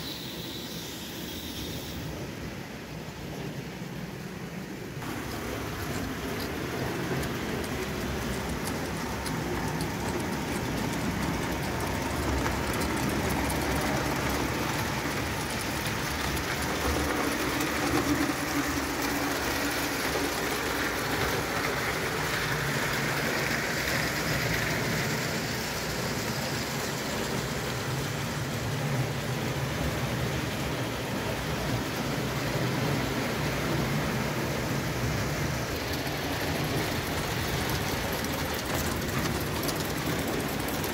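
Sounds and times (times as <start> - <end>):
toy steam train rattling on rails: 0.0 - 2.2, 5.0 - 40.9.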